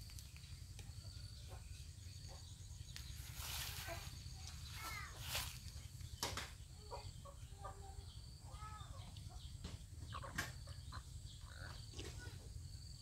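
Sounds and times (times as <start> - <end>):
chickens clucking: 0.9 - 12.7.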